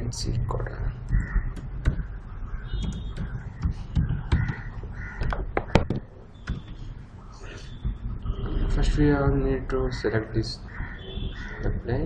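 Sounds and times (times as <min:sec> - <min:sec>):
birds cawing: 0:00.8 - 0:12.0.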